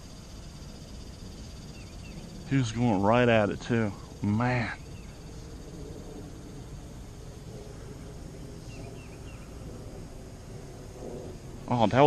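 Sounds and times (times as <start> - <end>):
steady low outdoor noise: 0.0 - 12.0.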